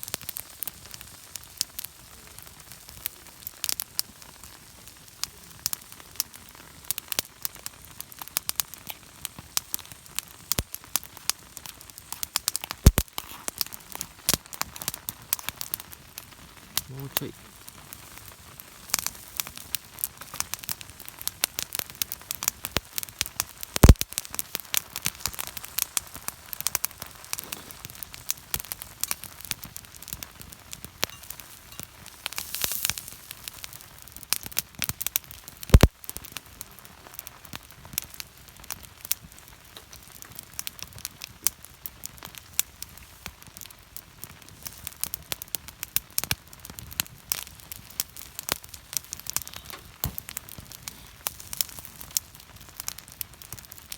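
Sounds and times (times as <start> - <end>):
campfire crackling: 0.0 - 53.9
loud fire pops: 0.0 - 53.9.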